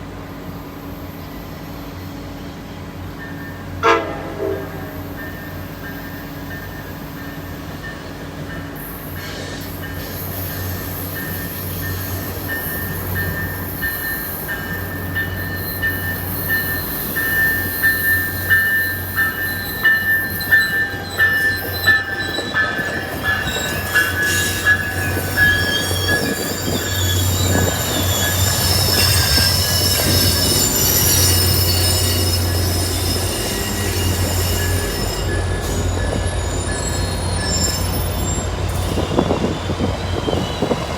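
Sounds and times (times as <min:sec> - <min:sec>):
train knocking: 0:03.3 - 0:40.9
train wheels squealing: 0:04.6 - 0:40.9.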